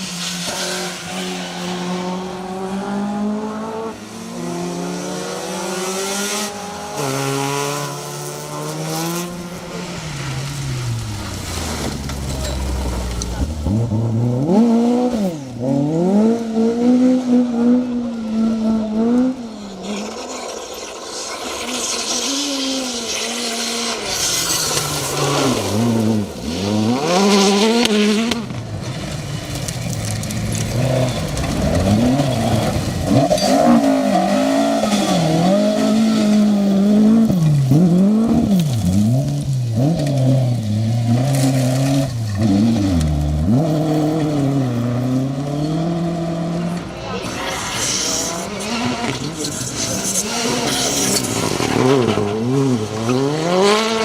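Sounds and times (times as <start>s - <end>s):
rally car engines at full throttle: 0.0s - 54.0s.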